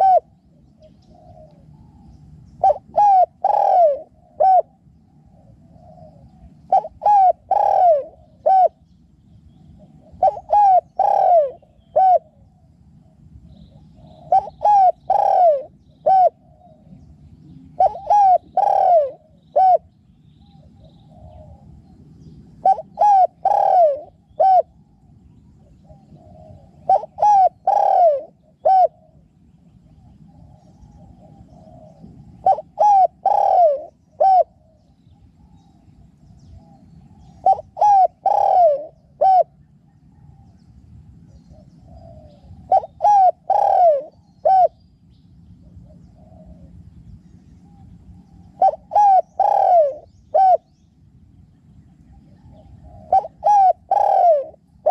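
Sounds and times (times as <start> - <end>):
dove cooing: 0.0 - 8.9, 9.6 - 44.8, 45.6 - 46.9, 47.6 - 50.8, 52.0 - 54.9.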